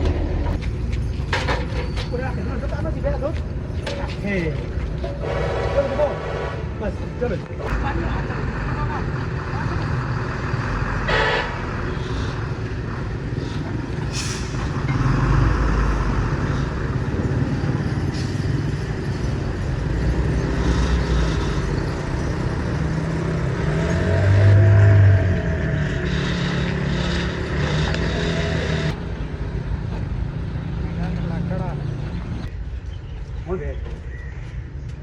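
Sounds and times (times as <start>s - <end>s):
vehicle engine low rumble: 0.0s - 35.0s.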